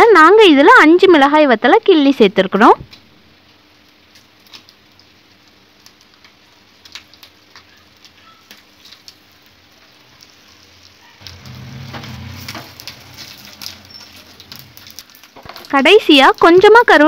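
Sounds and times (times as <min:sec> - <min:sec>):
crackles and pops: 0:02.8 - 0:17.0
spices sizzling in hot oil: 0:03.2 - 0:17.0.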